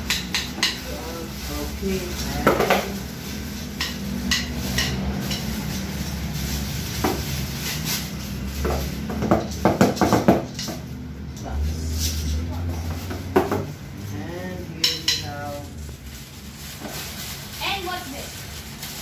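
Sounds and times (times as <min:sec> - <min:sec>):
plastic bags rustling: 0:00.0 - 0:11.2, 0:11.8 - 0:19.0.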